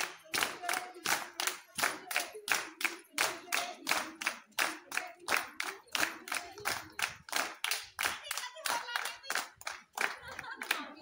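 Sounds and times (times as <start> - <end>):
women clapping in rhythm: 0.0 - 11.0.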